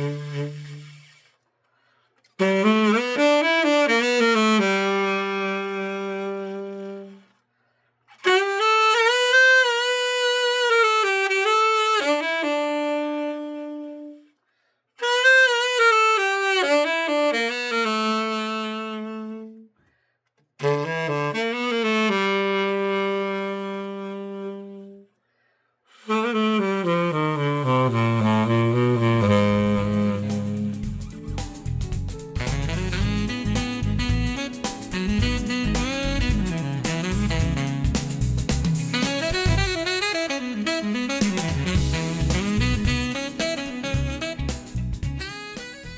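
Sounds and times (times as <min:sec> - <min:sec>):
tenor saxophone solo: 0:00.0 - 0:01.4, 0:02.2 - 0:07.4, 0:08.1 - 0:14.4, 0:15.0 - 0:19.8, 0:20.6 - 0:25.2, 0:25.9 - 0:45.9.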